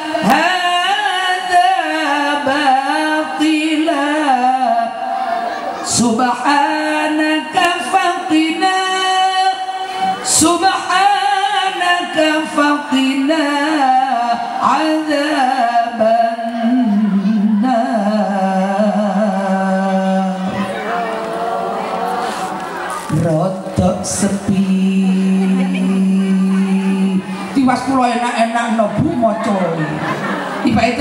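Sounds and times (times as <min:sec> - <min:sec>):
woman singing into a microphone: 0:00.0 - 0:20.8, 0:23.1 - 0:29.9.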